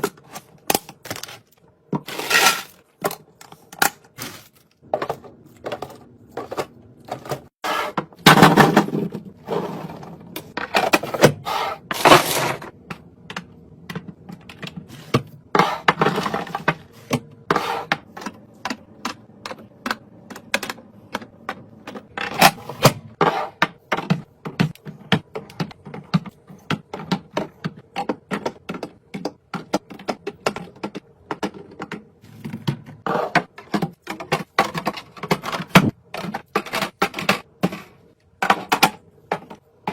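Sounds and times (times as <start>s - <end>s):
packages clicking and knocking: 0.0s - 9.4s, 12.0s - 39.9s.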